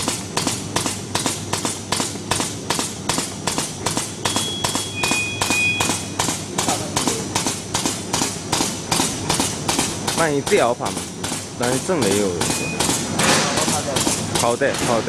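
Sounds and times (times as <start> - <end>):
bag machine mechanical clacking: 0.0 - 15.0.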